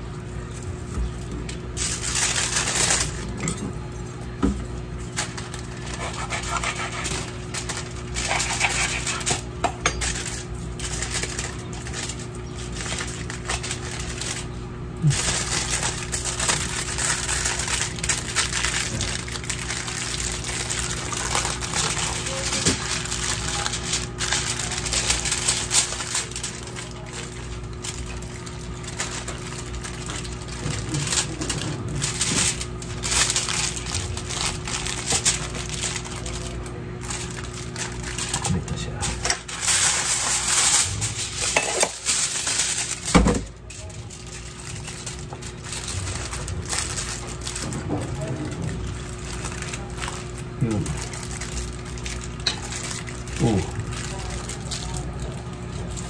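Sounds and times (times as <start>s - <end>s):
aluminium foil crinkling: 0.0s - 56.0s.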